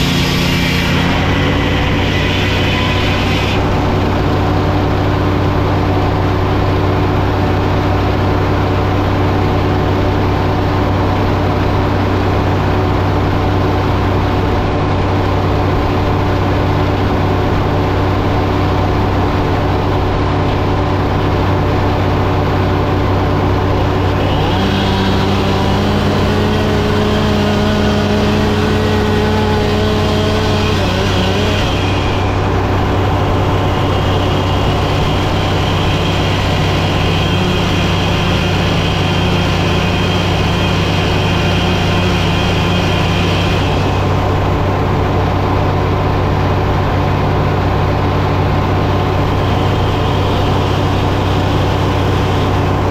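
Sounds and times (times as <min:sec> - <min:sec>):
sawmill engine running: 0:00.0 - 0:52.9.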